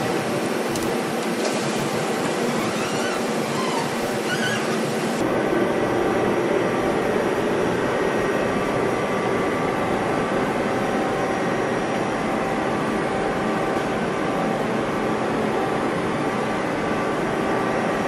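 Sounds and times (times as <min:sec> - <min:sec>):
lathe mechanical hum and rush: 0:00.0 - 0:18.0.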